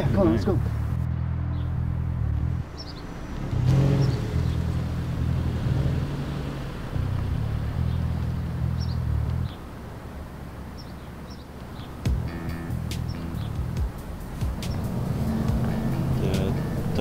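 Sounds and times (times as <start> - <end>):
car engine pulling forward: 0.8 - 17.0.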